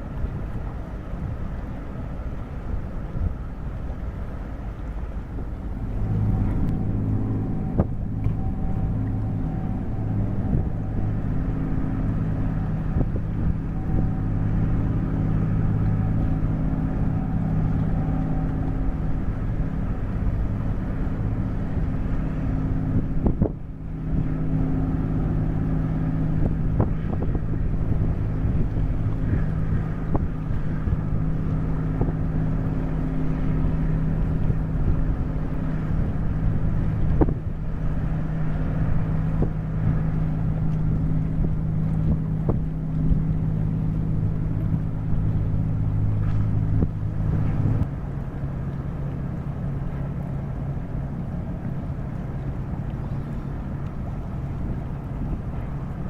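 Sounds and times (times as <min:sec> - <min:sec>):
ship diesel engines droning: 0:00.0 - 0:56.0
wind on microphone: 0:00.0 - 0:56.0.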